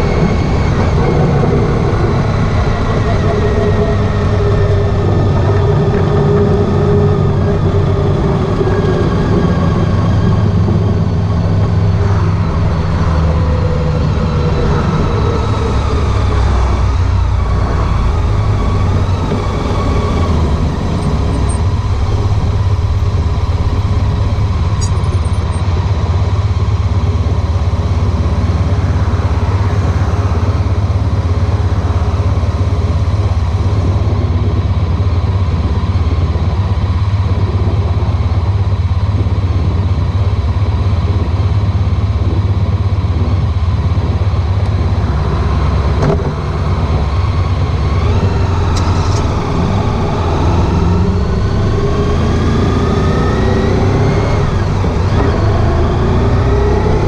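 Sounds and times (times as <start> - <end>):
motorcycle engine rumble: 0.0 - 57.0
wind and road noise: 0.0 - 57.0.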